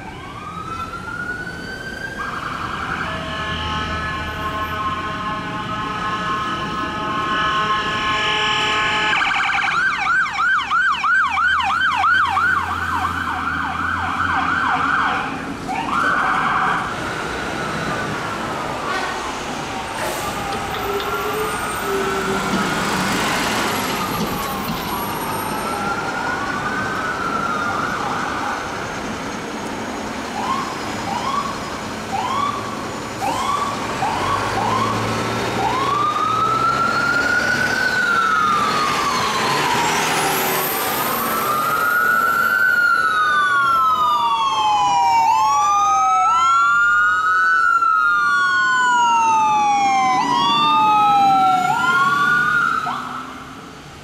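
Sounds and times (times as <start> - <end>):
ambulance siren wailing and yelping: 0.0 - 5.1, 8.8 - 18.3, 19.6 - 29.2, 30.3 - 53.7
traffic rumble: 0.0 - 54.0.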